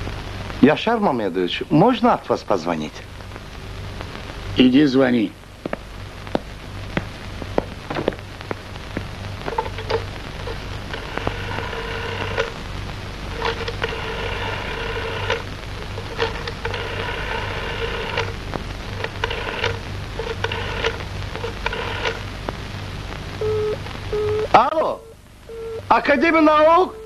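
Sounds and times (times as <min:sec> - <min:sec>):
steady hiss: 0:00.0 - 0:27.0
steady buzzing tone: 0:02.8 - 0:27.0.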